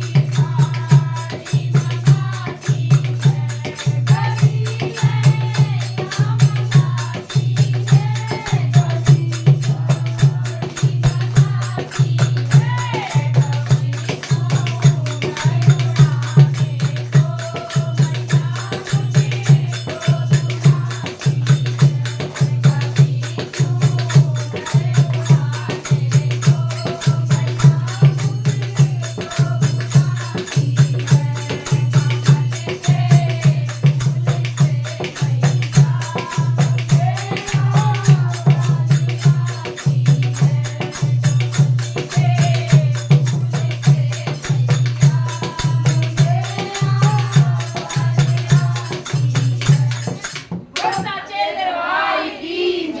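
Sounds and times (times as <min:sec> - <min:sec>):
fast drum beat: 0:00.0 - 0:50.7
jingling hand percussion: 0:00.0 - 0:51.4.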